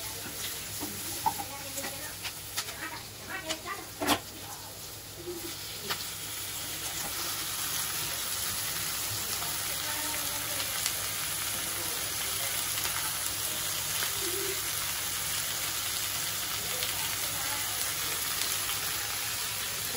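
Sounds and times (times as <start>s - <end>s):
onions and tomatoes sizzling in a pan: 0.0s - 19.9s.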